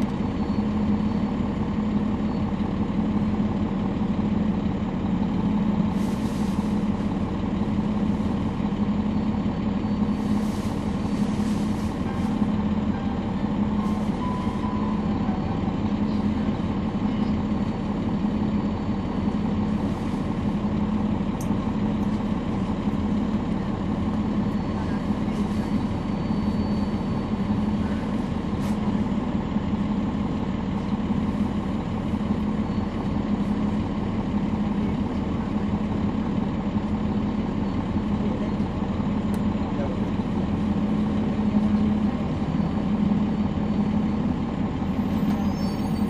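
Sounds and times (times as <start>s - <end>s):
bus diesel engine droning: 0.0s - 46.0s.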